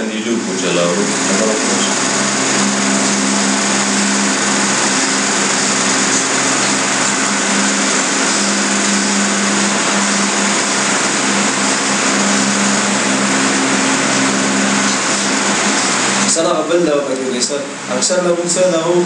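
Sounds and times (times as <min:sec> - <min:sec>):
machine drone: 0:00.0 - 0:19.0.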